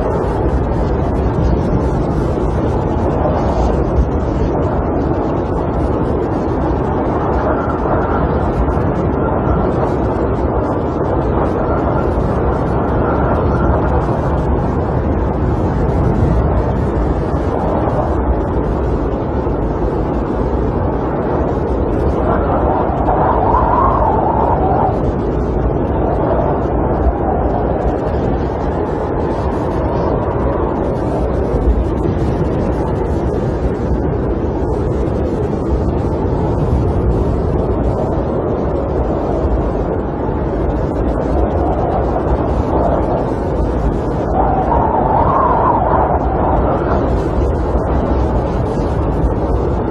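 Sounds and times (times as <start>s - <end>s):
snowstorm wind blowing: 0.0s - 49.9s.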